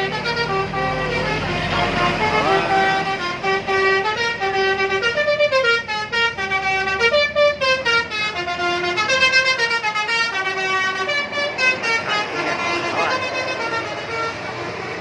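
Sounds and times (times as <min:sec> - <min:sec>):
bus horn playing a tune: 0:00.0 - 0:15.0.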